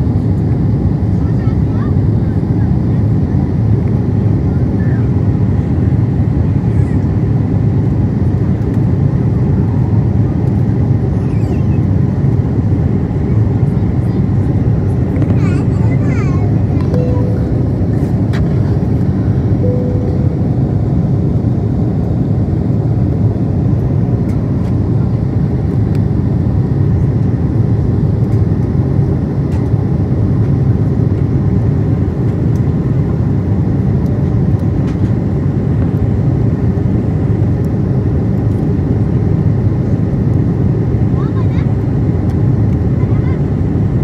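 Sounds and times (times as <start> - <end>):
jet engines and airflow roar: 0.0 - 44.0.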